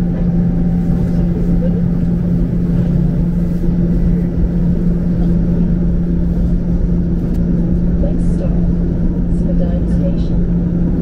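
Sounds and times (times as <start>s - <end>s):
streetcar humming and rumbling: 0.0s - 11.0s.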